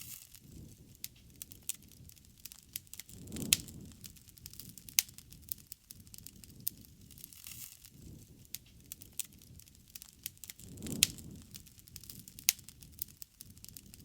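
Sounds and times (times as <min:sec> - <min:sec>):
bonfire crackling and popping: 0:00.0 - 0:14.0
low rush of flames: 0:00.0 - 0:14.0.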